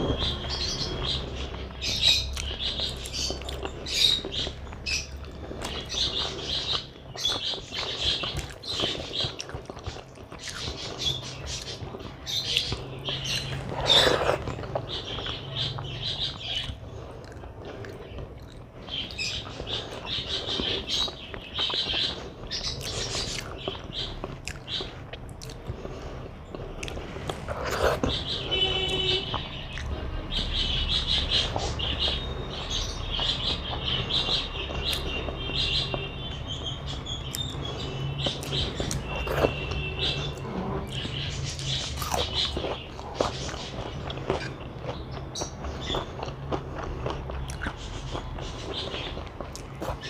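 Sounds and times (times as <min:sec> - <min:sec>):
birds chirping: 0:00.0 - 0:50.0
close chewing sounds: 0:00.0 - 0:50.0.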